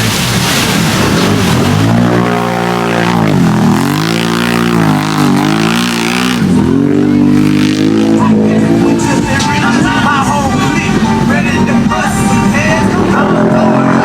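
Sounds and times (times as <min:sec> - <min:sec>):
off-road vehicle engine at full throttle: 0:00.0 - 0:14.0.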